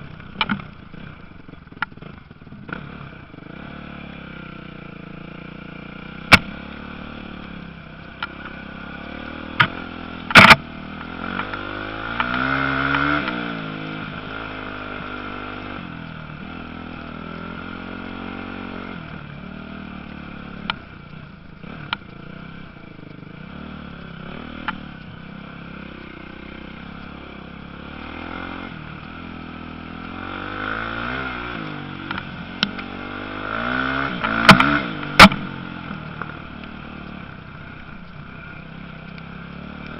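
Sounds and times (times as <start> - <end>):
motocross bikes revving: 2.0 - 39.9.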